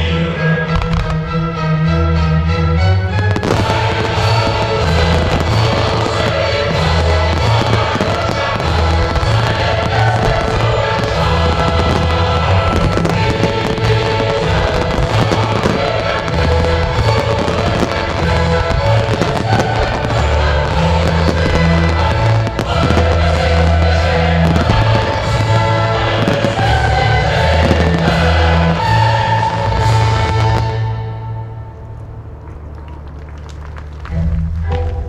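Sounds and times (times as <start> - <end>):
music with heavy bass: 0.0 - 32.3
fireworks bursting and crackling: 0.8 - 1.2, 3.1 - 31.0.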